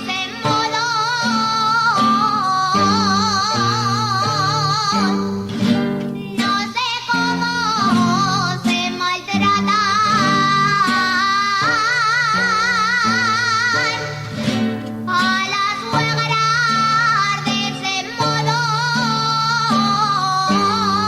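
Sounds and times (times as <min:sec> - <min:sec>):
plucked guitar: 0:00.0 - 0:21.0
woman singing with vibrato: 0:00.0 - 0:21.0.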